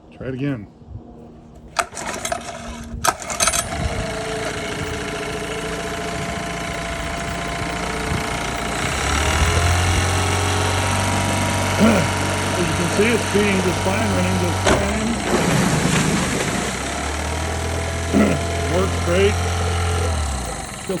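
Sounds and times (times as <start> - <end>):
outboard engine running: 1.6 - 21.0.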